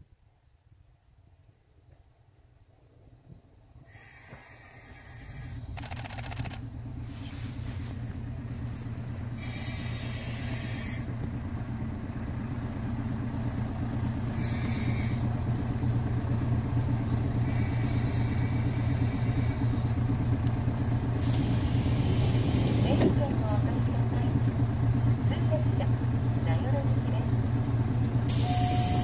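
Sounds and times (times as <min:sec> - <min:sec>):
diesel railcar engine humming: 0:00.0 - 0:29.0.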